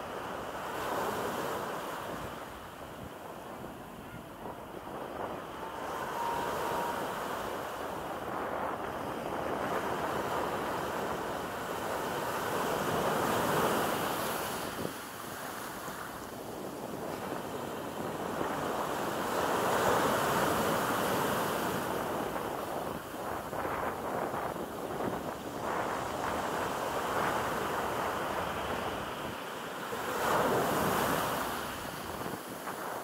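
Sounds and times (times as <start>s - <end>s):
small waves breaking on shore: 0.0s - 33.0s.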